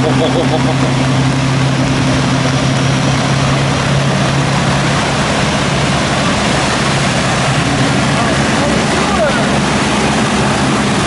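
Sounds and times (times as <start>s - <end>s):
rain and floodwater rushing: 0.0s - 11.0s
truck diesel engines droning: 0.0s - 11.0s.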